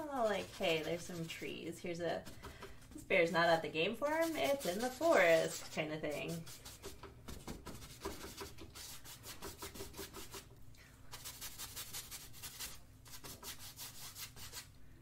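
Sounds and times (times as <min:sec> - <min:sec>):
paintbrush scrubbing on canvas: 0:00.0 - 0:03.1, 0:03.9 - 0:10.5, 0:11.1 - 0:14.7.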